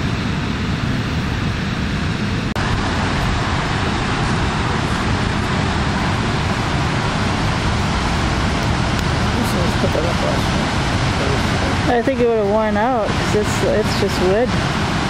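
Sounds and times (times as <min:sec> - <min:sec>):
whitewater rapids rushing: 0:02.6 - 0:15.0.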